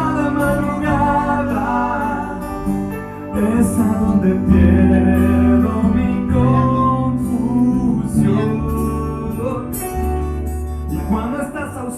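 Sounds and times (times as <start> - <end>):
live band playing ballad: 0.0 - 11.9
person singing: 0.0 - 11.9.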